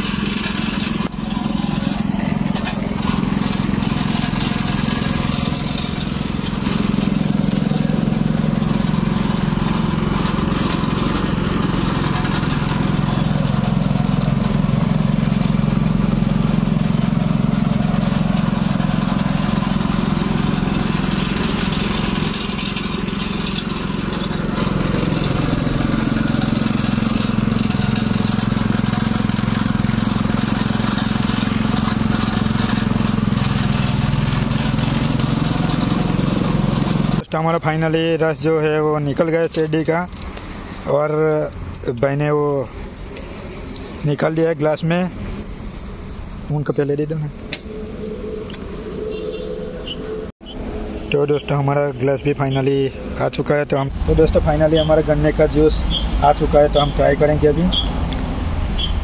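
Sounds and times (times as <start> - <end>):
cane crushing machine drone: 0.0 - 38.2, 38.8 - 59.0.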